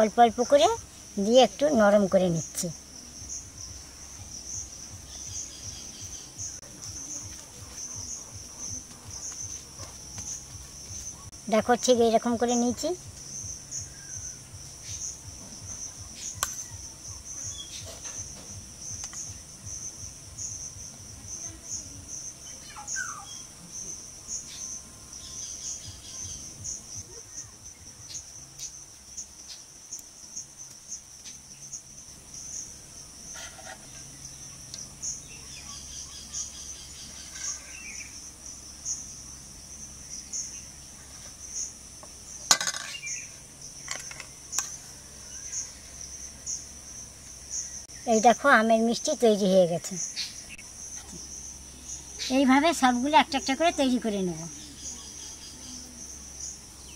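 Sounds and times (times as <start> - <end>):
insects chirping trill: 0.0 - 56.9.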